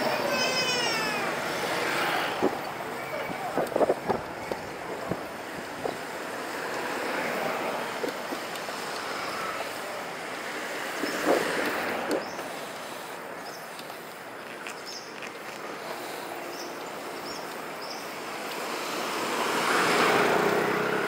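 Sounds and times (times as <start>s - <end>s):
bicycle tyre noise: 0.0s - 19.1s.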